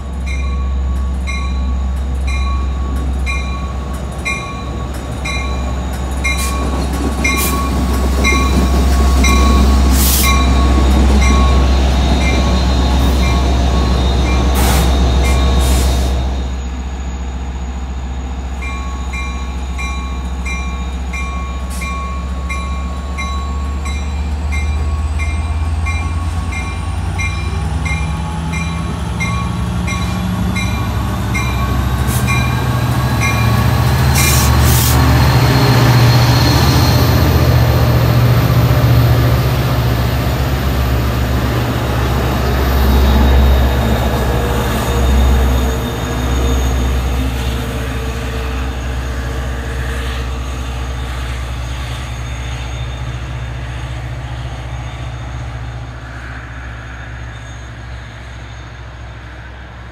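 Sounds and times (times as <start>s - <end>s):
locomotive bell dinging: 0.0s - 49.5s
diesel locomotive engine drone: 0.0s - 59.9s
train cars rolling past: 0.0s - 59.9s.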